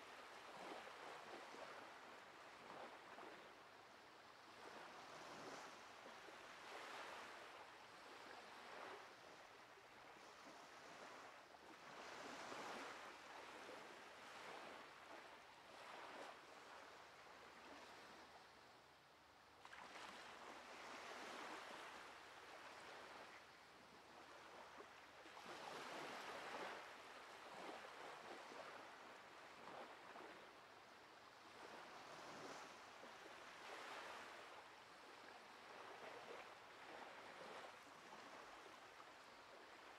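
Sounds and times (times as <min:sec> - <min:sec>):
faint ocean surf: 0:00.0 - 0:39.9.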